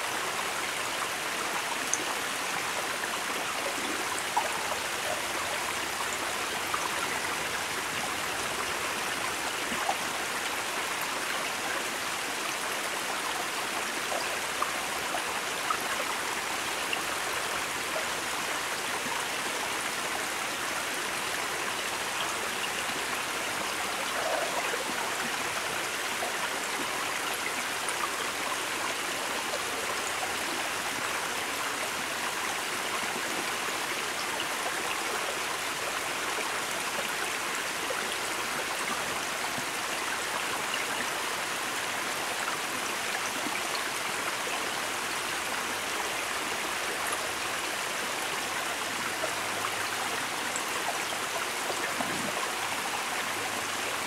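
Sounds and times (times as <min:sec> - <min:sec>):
creek water rushing over rocks: 0:00.0 - 0:54.0.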